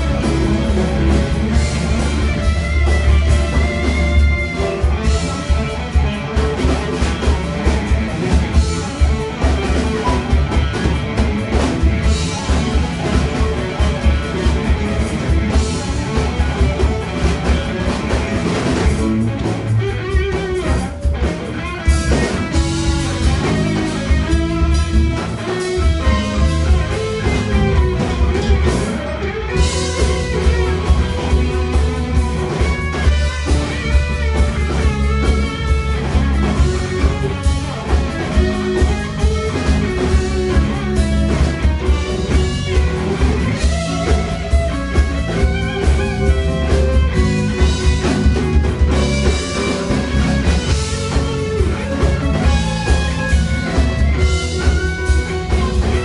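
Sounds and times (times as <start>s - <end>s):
bass guitar: 0.0s - 56.0s
drum kit: 0.0s - 56.0s
electric guitar: 0.0s - 56.0s
keyboard: 0.0s - 56.0s.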